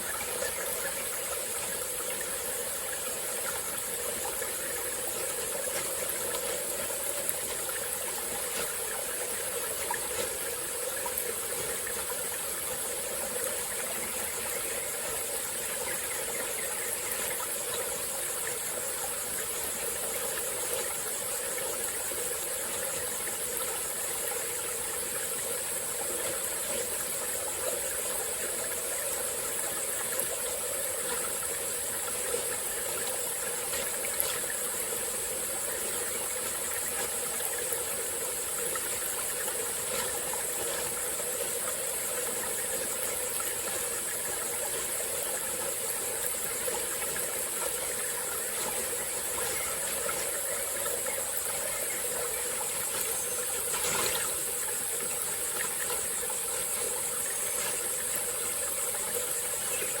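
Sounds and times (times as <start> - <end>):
stream flowing: 0.0 - 60.0.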